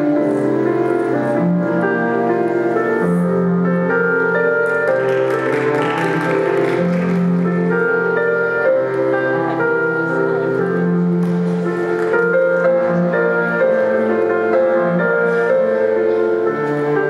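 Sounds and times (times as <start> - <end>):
instrumental piano music: 0.0 - 17.0.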